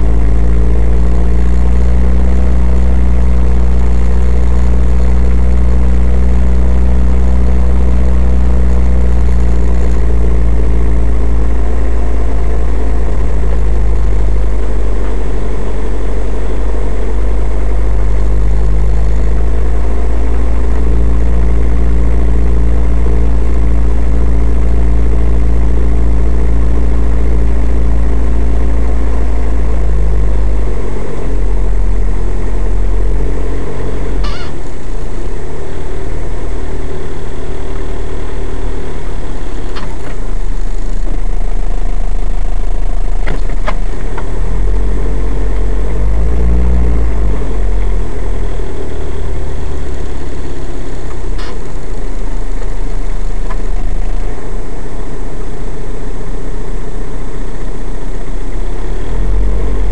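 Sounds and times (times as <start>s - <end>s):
car engine running at low speed: 0.0s - 59.9s.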